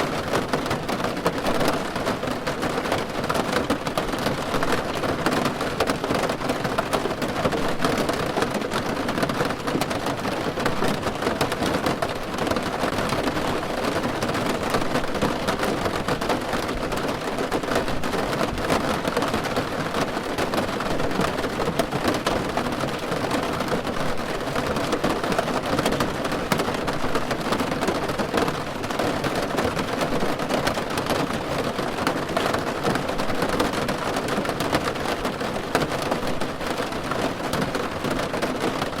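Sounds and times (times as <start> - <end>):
rain falling on a car roof: 0.0 - 39.0.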